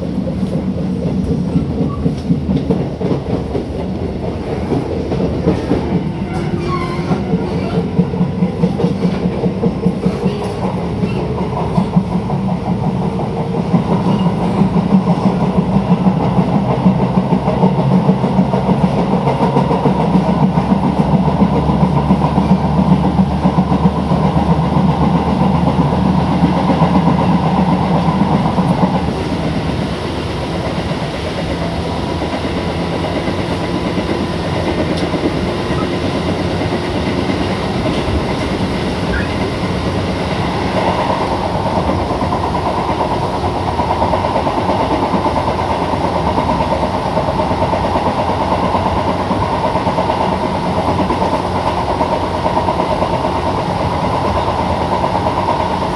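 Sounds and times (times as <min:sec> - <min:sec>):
train wheels rattling on rails: 0:00.0 - 0:55.9.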